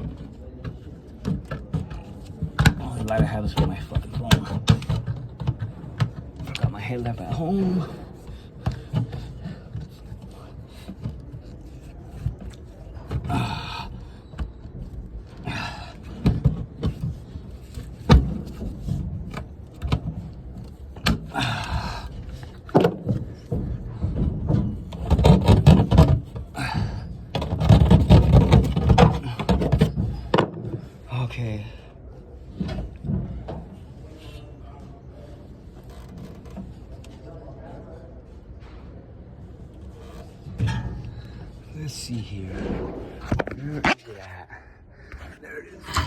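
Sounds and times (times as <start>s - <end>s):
rumbling handling noise: 0.0s - 31.1s, 32.0s - 46.0s.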